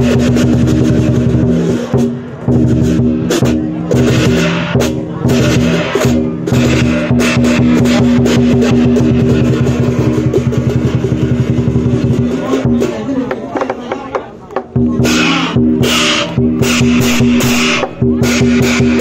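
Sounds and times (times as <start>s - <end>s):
crashing cymbals: 0.0s - 12.9s, 14.8s - 19.0s
drum beat: 0.0s - 19.0s.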